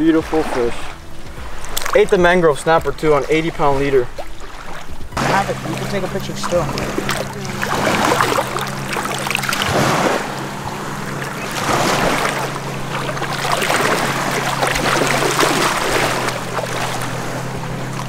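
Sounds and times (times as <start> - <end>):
steady low hum: 0.0 - 18.0
fish splashing in shallow water: 0.2 - 18.0.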